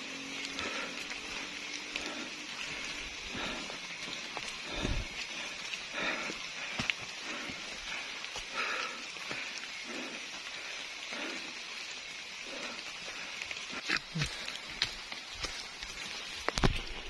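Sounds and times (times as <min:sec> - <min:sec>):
footsteps on muddy trail: 0:00.0 - 0:17.0
light rain pattering on leaves: 0:00.0 - 0:17.0.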